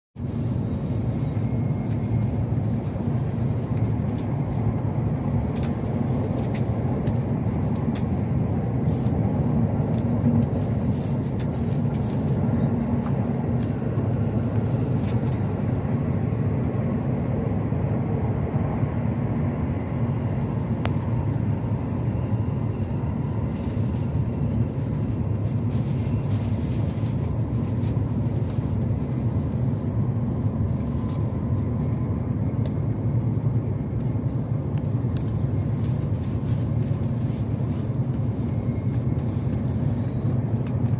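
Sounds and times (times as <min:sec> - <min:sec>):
train rumbling at speed: 0:00.2 - 0:40.9.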